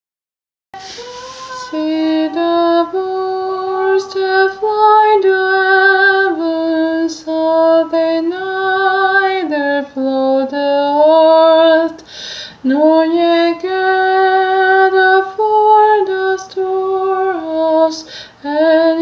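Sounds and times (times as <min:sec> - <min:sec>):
person singing a hymn: 0:00.8 - 0:19.0.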